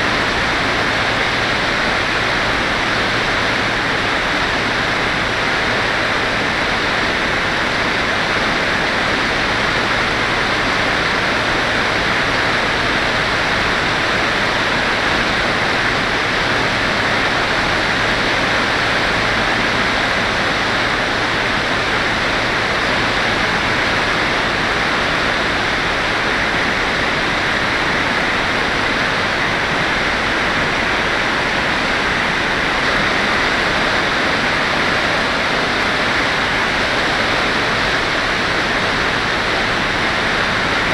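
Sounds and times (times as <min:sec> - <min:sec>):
wind hissing over microphone: 0:00.0 - 0:40.9.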